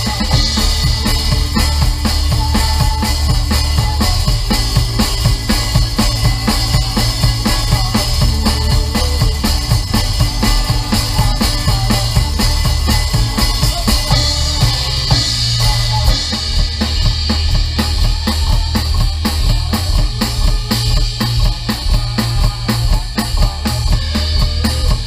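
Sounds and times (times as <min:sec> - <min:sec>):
drum kit beat: 0:00.0 - 0:25.0
live band playing worship song: 0:00.0 - 0:25.0.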